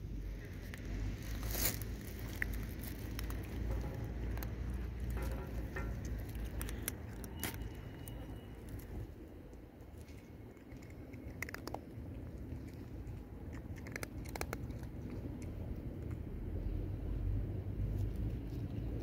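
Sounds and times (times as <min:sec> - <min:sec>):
low steady rumble: 0:00.0 - 0:19.0
cat crunching dry kibble: 0:00.2 - 0:16.4.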